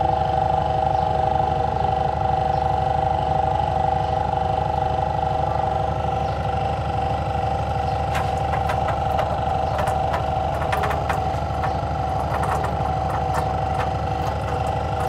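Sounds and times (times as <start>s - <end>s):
motor humming with pulsing rumble: 0.0s - 15.0s.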